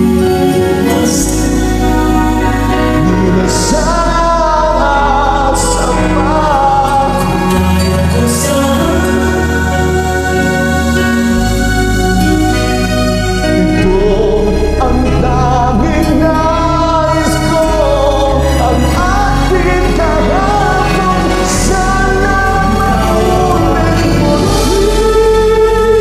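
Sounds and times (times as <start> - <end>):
karaoke backing track: 0.0 - 26.0
man singing pop ballad: 0.0 - 26.0.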